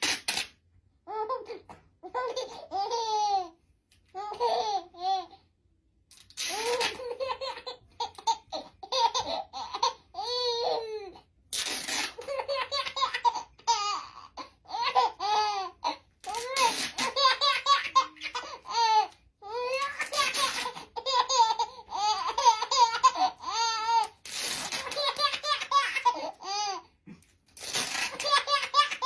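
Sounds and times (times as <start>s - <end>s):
baby giggling: 1.1s - 3.6s, 4.2s - 5.4s, 6.4s - 11.2s, 12.1s - 26.9s, 27.8s - 29.0s.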